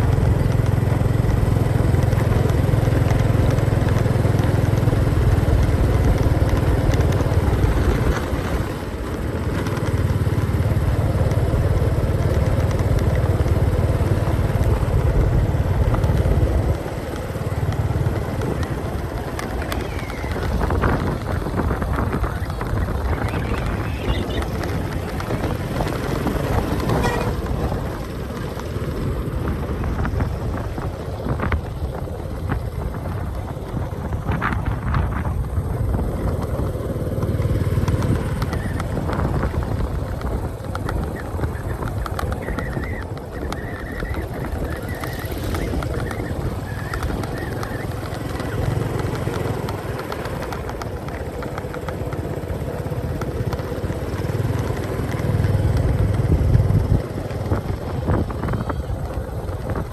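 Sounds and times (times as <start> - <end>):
motorcycle engine humming: 0.0 - 59.9
road and wind noise: 0.0 - 59.9.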